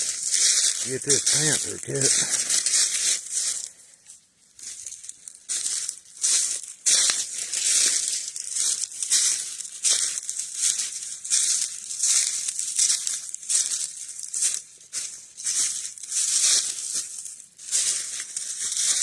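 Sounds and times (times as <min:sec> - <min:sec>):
footsteps crunching through dry leaves: 0:00.0 - 0:19.0.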